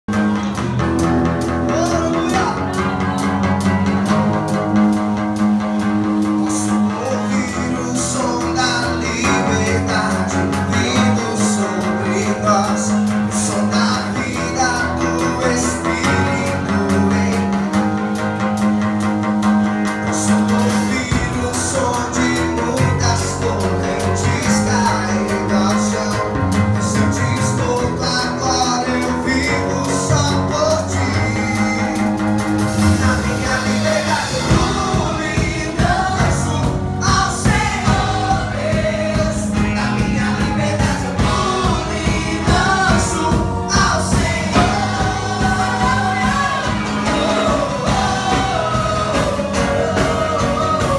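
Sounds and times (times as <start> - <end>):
band music with singing: 0.0 - 50.9
steady drum beat: 0.1 - 50.9.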